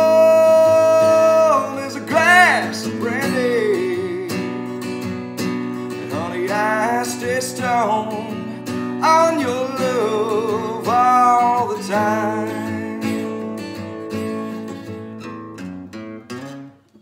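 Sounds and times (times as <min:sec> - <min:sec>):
man singing: 0:00.0 - 0:04.8, 0:06.0 - 0:14.8
strummed acoustic guitar: 0:00.0 - 0:17.0.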